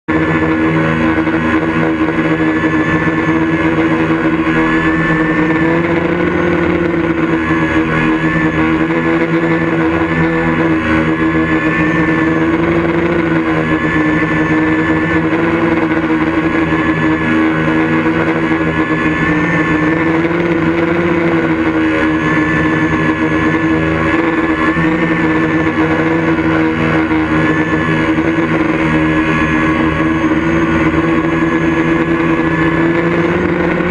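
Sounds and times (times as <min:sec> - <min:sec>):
engine drone: 0:00.0 - 0:33.9.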